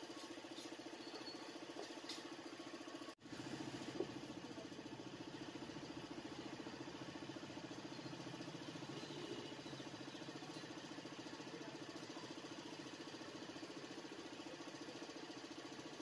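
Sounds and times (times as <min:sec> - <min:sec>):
small motor pulsing: 0:00.0 - 0:16.0.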